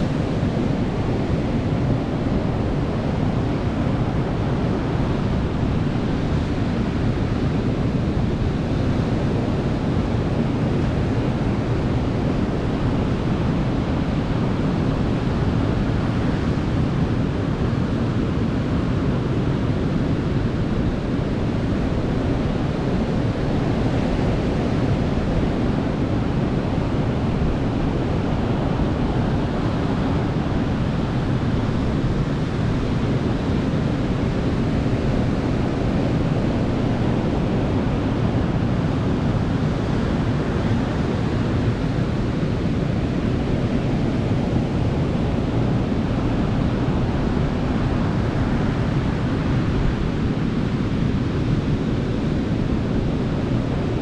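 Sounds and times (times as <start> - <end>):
ocean surf washing onto beach: 0.0 - 54.0.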